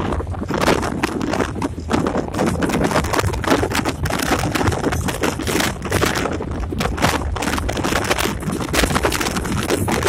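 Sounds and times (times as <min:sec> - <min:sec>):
cab rattling and clatter: 0:00.0 - 0:10.0
diesel engine low rumble: 0:00.0 - 0:10.0.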